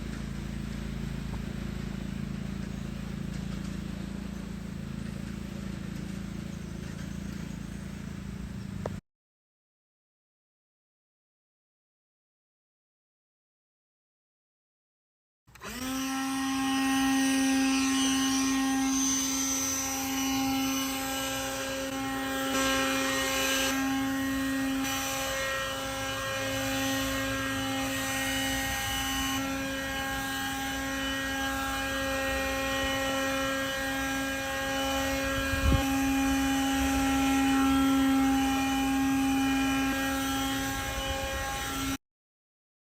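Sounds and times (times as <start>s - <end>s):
chainsaw motor running: 0.0s - 9.0s, 15.5s - 42.0s.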